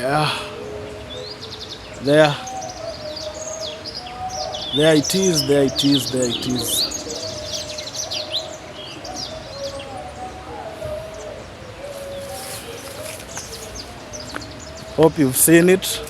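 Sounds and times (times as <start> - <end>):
birds chirping: 0.0 - 16.0
outdoor background noise: 0.0 - 16.0.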